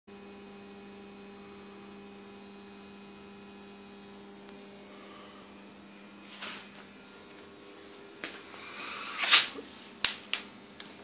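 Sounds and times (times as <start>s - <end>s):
transformer electrical hum: 0.1s - 11.0s.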